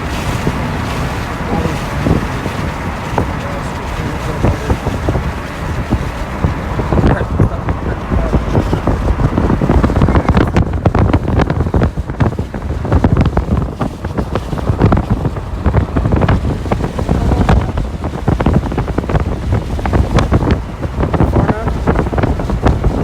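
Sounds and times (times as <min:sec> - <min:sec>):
heavy low rumble: 0:00.0 - 0:23.0
sharp crackles: 0:00.0 - 0:23.0
wind buffeting microphone: 0:00.0 - 0:23.0.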